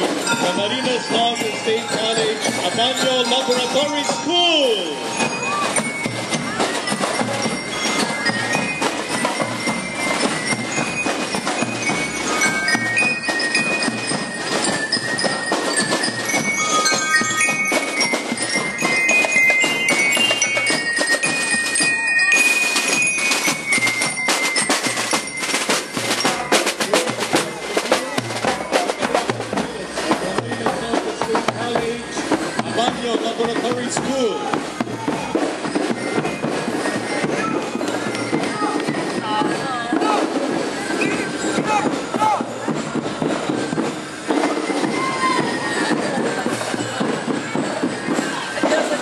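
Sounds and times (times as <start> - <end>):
bell lyres ringing melody: 0.0 - 49.0
marching drums beating: 0.0 - 49.0.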